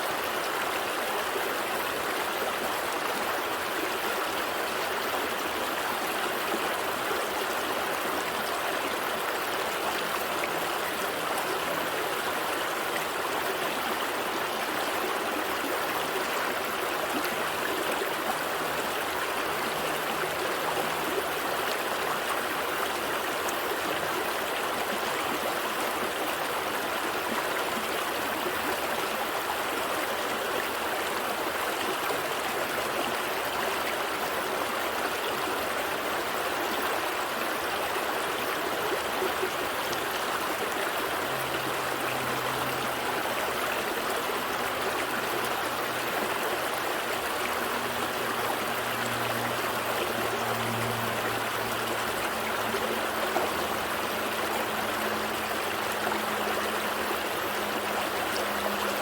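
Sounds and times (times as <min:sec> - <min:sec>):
gentle stream flowing: 0:00.0 - 0:59.0.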